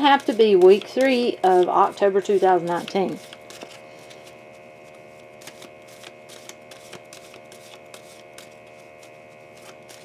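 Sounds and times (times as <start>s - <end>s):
cards being shuffled by hand: 0.0s - 10.0s.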